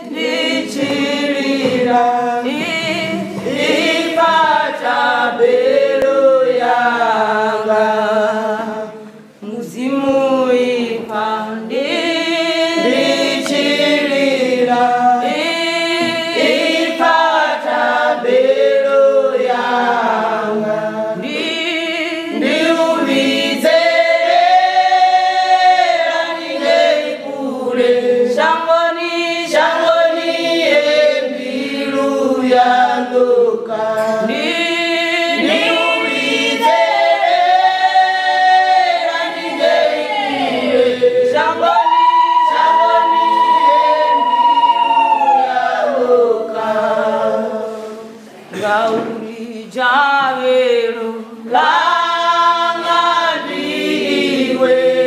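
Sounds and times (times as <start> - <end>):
women's choir singing a cappella: 0.0 - 55.0.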